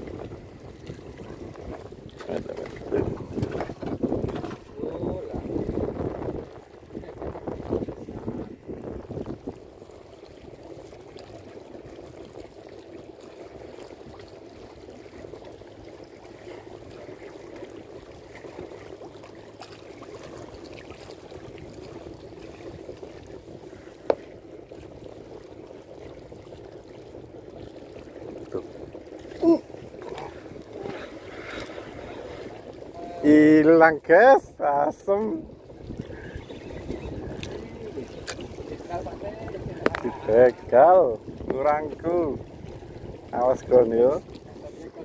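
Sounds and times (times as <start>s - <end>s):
water lapping against boat hull: 0.0s - 45.0s.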